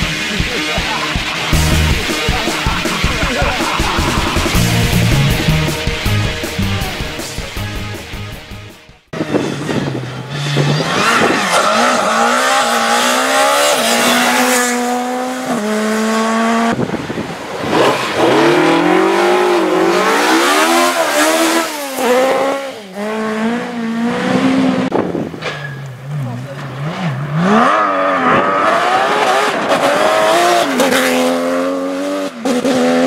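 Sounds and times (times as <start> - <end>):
rally car engines revving: 0.0 - 33.0.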